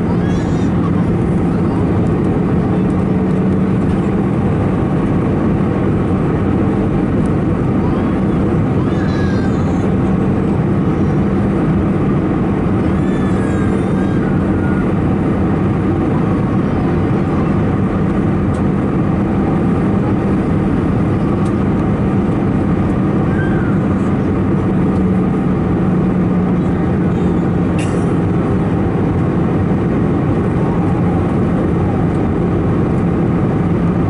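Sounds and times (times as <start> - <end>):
airplane cabin engine and airflow rush: 0.0 - 34.0.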